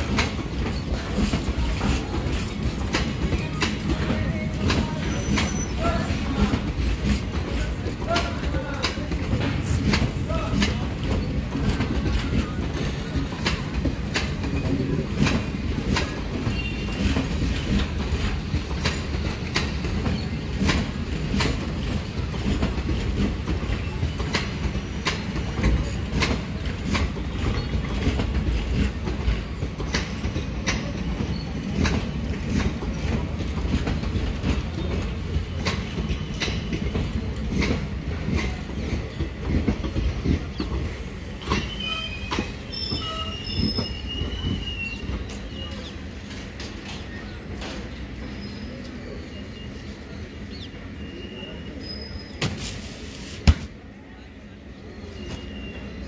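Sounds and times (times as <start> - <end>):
train coaches rumbling: 0.0 - 56.0.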